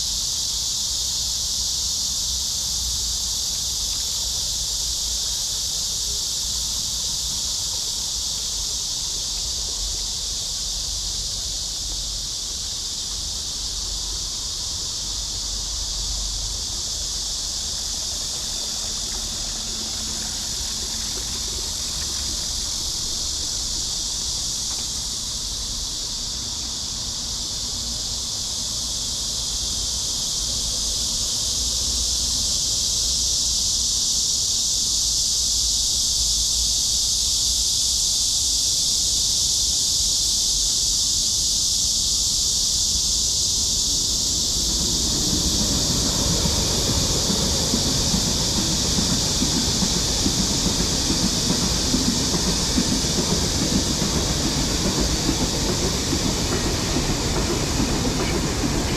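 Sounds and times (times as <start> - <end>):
buzzing insect chorus: 0.0 - 58.9.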